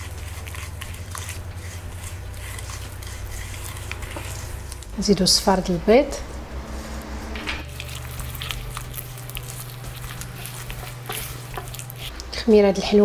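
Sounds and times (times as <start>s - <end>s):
hand squishing wet batter: 0.0s - 5.3s, 7.7s - 12.9s.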